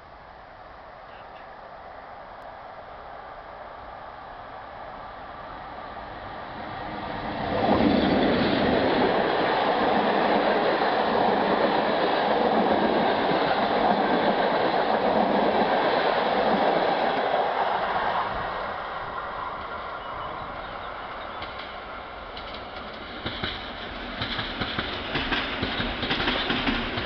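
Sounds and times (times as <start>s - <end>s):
train wheels rushing on rails: 4.1s - 27.0s.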